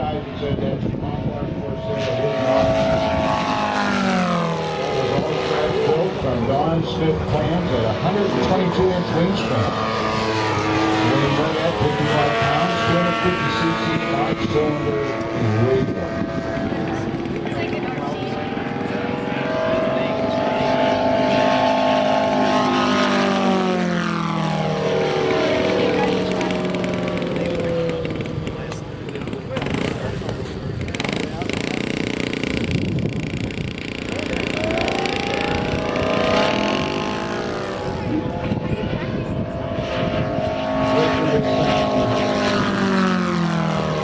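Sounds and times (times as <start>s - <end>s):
radial aircraft engine running: 0.0s - 44.0s.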